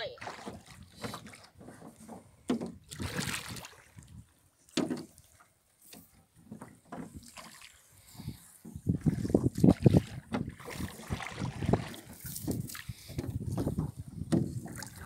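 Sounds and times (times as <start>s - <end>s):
water splashing around rowboat: 0.0s - 15.0s.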